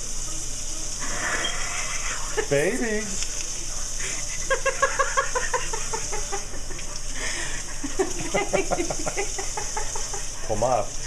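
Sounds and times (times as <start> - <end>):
water running from faucet: 0.0 - 11.0.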